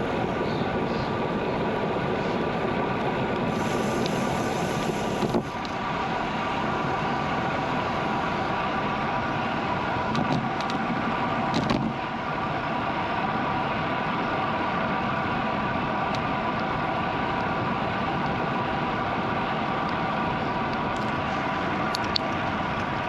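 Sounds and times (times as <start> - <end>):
bicycle tyre noise on road: 0.0 - 23.0.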